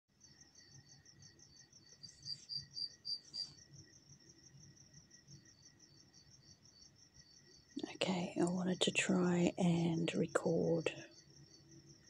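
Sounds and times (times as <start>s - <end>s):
cricket chirping: 0.1s - 12.0s.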